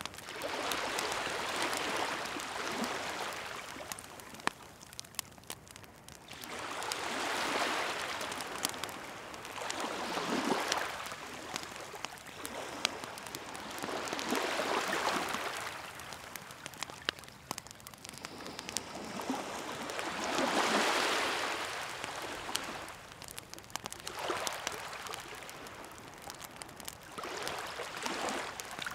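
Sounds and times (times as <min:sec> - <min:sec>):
campfire crackling and popping: 0:00.0 - 0:28.9
sea waves washing onto shore: 0:00.0 - 0:28.9.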